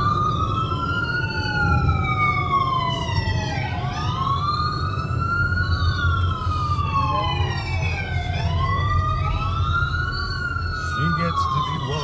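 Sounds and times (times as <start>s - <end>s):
car road and engine rumble: 0.0s - 12.0s
wailing emergency siren: 0.0s - 12.0s.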